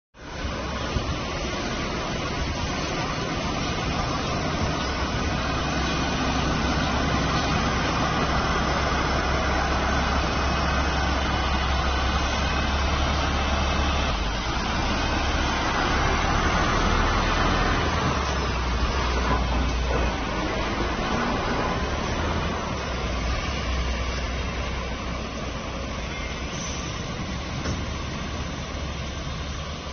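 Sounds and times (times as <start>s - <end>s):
heavy diesel engine droning: 0.2s - 29.9s.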